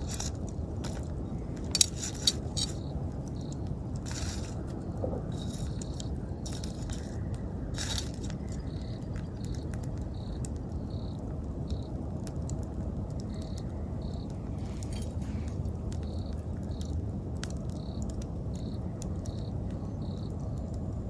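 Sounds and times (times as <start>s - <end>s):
insect chirping: 0.0s - 12.0s, 13.2s - 17.0s, 17.7s - 20.6s
campfire crackling and popping: 0.0s - 21.0s
fire hissing flare-ups: 0.0s - 21.0s.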